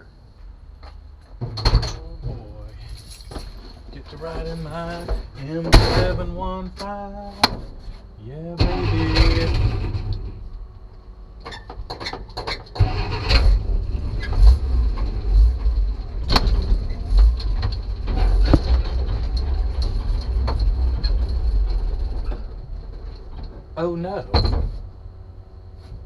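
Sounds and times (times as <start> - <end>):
heavy truck engine rumble: 0.0 - 26.0
truck knocks and rattles: 0.8 - 8.0, 8.6 - 10.7, 11.4 - 24.9.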